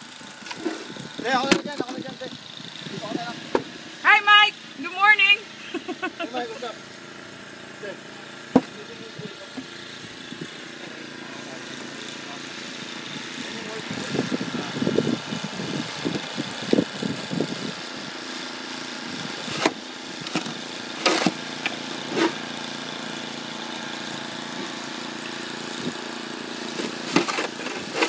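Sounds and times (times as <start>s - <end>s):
snowblower engine running: 0.0s - 28.0s.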